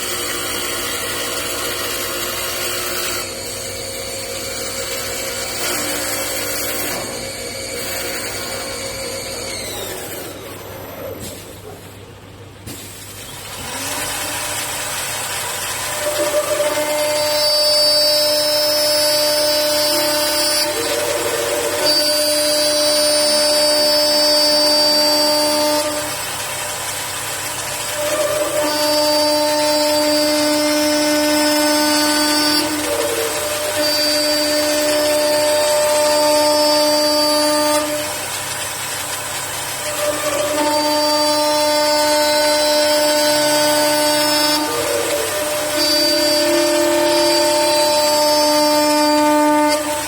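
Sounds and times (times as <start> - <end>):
lathe motor whine: 0.0 - 12.6, 13.3 - 50.0
machine working wood: 0.0 - 50.0.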